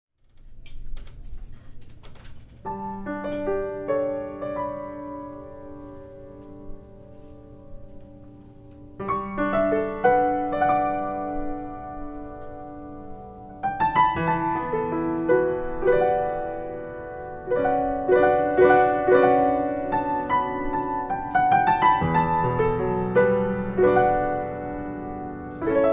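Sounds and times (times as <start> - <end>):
solo piano: 0.5 - 25.9.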